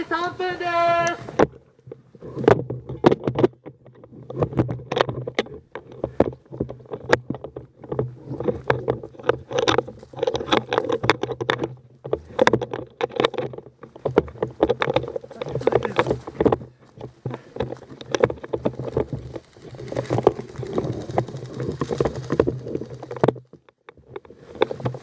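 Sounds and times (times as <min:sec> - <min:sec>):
rifle handling knocks and clicks: 0:01.3 - 0:25.0.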